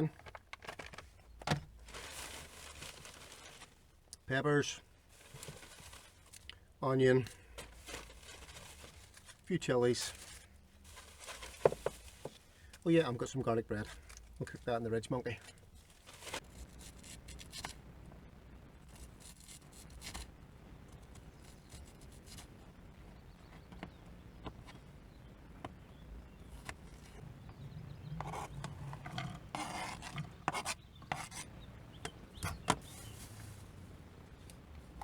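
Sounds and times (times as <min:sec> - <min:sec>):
rubbing and scraping food: 0:00.0 - 0:04.0, 0:05.0 - 0:17.8, 0:18.8 - 0:25.1, 0:26.2 - 0:33.8.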